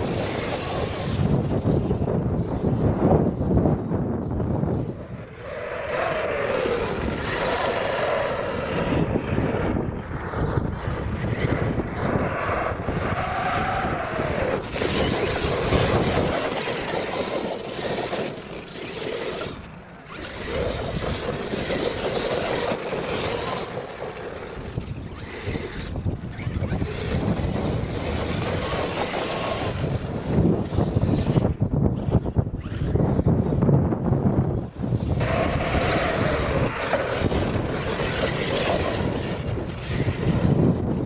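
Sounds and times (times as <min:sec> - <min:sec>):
electric motor whining: 0:00.0 - 0:41.0
tyres churning sand: 0:00.0 - 0:41.0
wind rumble on microphone: 0:00.0 - 0:41.0.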